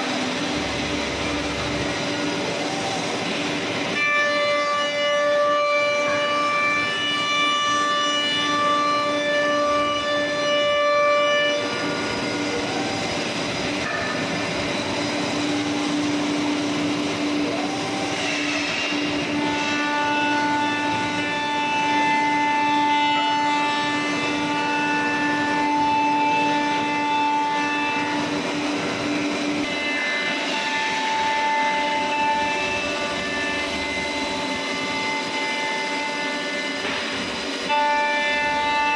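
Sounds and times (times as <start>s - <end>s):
cnc router spindle whine: 0.0s - 38.9s
wood cutting noise: 0.0s - 38.9s.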